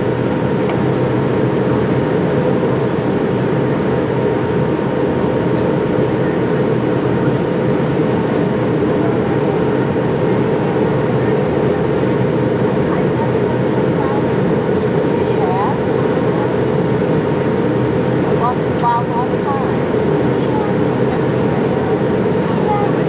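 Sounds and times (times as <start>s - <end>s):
airliner cabin engine roar: 0.0s - 23.0s.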